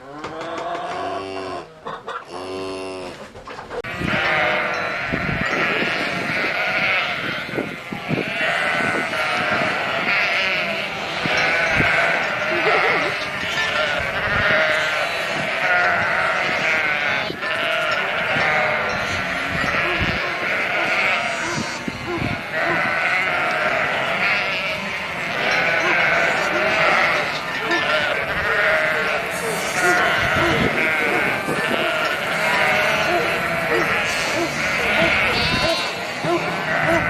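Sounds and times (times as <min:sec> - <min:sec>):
sheep bleating: 0:03.8 - 0:37.0.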